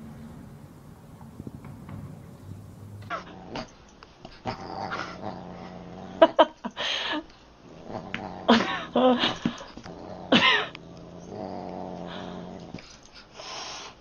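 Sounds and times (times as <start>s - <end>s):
dog growling and yipping: 0.1s - 6.6s, 7.6s - 13.0s.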